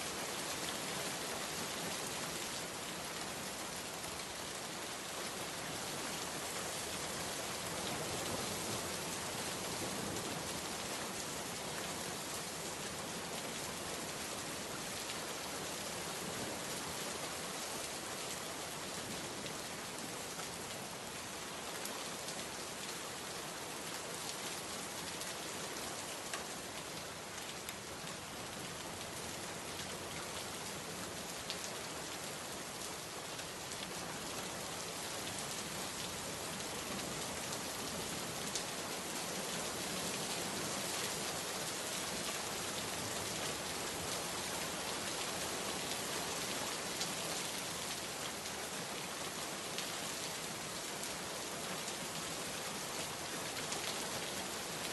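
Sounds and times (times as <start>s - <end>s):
rain patter: 0.0s - 54.9s.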